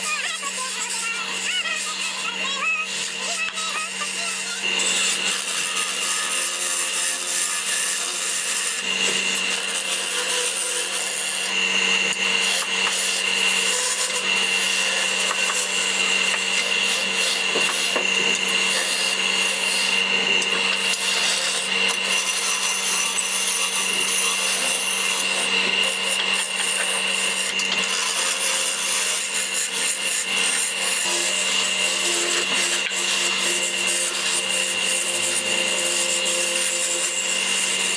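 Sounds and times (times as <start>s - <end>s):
turning tool scraping wood: 0.0s - 37.9s
wood lathe whining: 0.0s - 37.9s.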